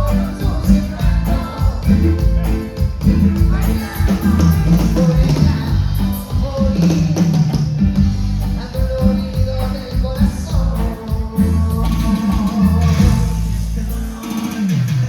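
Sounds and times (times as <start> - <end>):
live cumbia band: 0.0 - 15.0
person singing: 0.0 - 15.0.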